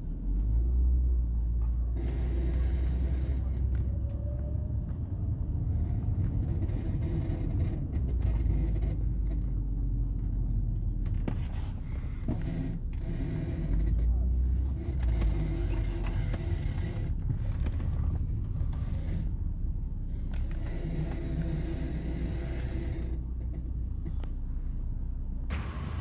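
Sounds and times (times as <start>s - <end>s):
car engine low rumble: 0.0s - 26.0s.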